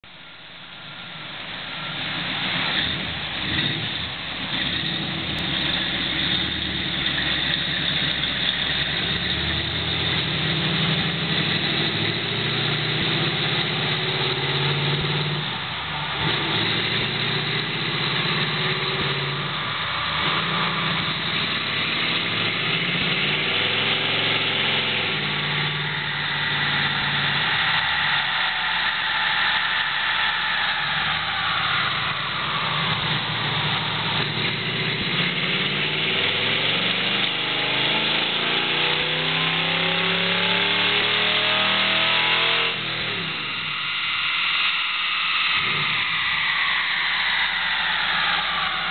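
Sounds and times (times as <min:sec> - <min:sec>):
car engine revving on dynamometer: 0:01.4 - 0:48.9.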